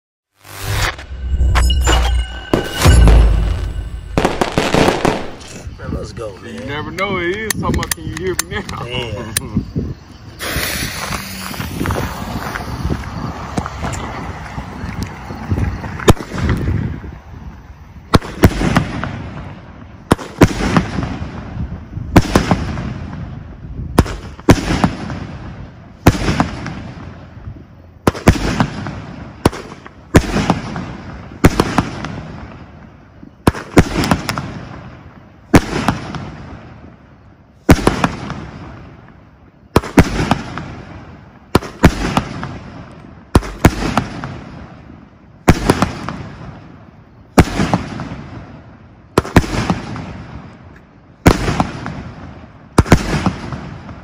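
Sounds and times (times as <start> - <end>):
firework bangs: 0.4 - 6.1, 10.4 - 14.6, 15.6 - 17.1, 18.1 - 37.0, 37.6 - 50.6, 51.2 - 54.0.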